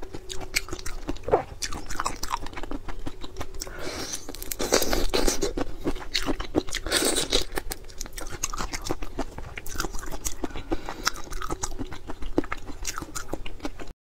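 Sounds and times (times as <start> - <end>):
moist chewing with clicks: 0.0 - 13.9.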